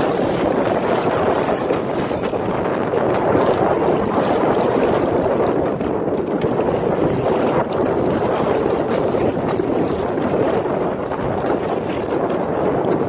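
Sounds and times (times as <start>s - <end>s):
water splashing against kayak hull: 0.0s - 13.0s
wind across microphone: 0.0s - 13.0s.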